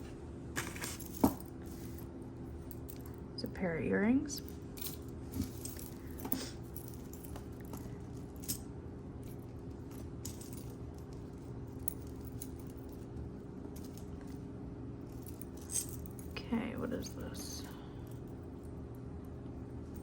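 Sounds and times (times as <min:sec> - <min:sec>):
metal jewelry clinking: 0:00.6 - 0:03.3, 0:04.4 - 0:20.0.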